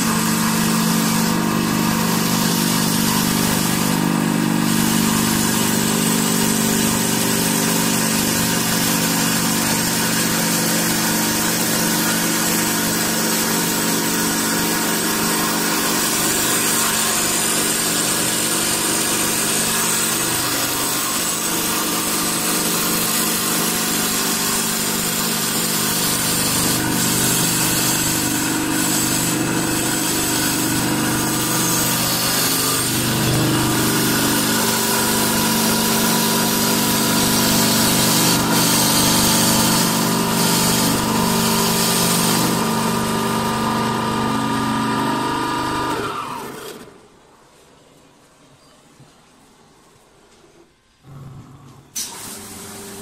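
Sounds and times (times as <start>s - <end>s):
lathe motor hum: 0.0s - 46.9s.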